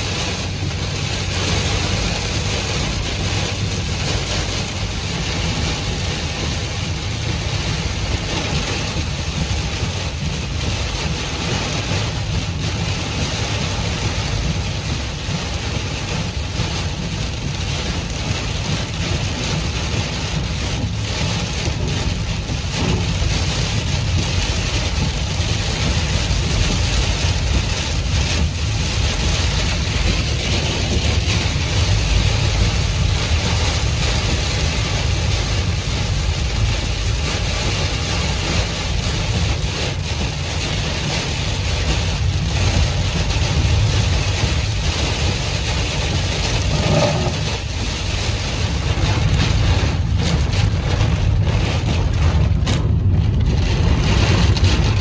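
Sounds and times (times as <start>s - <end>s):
engine and road rumble: 0.0s - 55.0s
heavy rain on car windshield: 0.0s - 55.0s.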